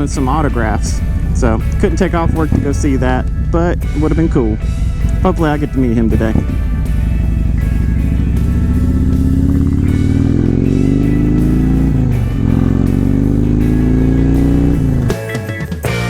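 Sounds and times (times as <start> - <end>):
motorcycle engine accelerating: 0.0 - 15.4
background music: 0.0 - 16.0.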